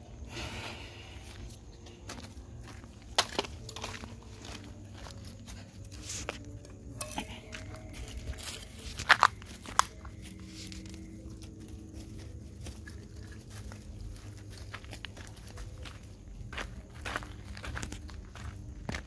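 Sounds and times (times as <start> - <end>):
footsteps crunching on dirt: 0.4 - 19.0.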